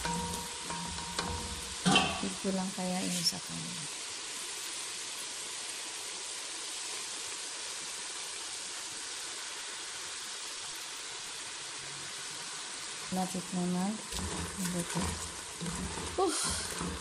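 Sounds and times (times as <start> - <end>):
fries sizzling in hot oil: 0.0 - 17.0.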